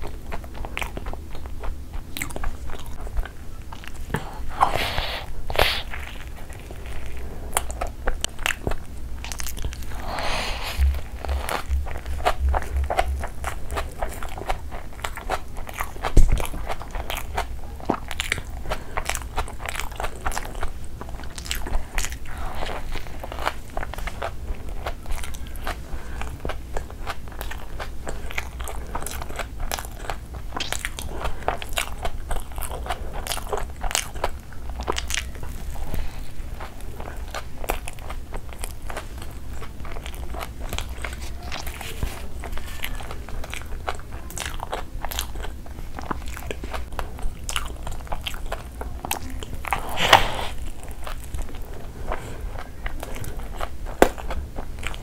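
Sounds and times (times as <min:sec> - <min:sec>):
chewing burger: 0:00.0 - 0:55.0.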